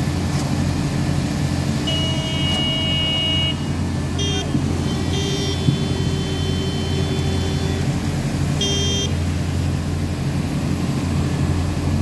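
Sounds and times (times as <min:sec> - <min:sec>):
concrete pump engine drone: 0:00.0 - 0:12.0.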